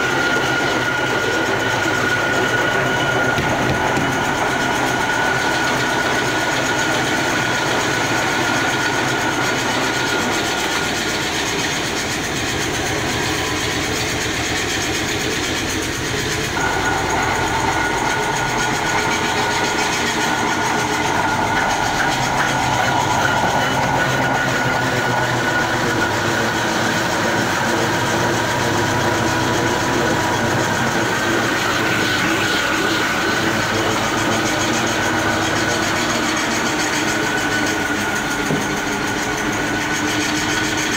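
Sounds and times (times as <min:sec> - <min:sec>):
lathe machine whine: 0:00.0 - 0:40.9.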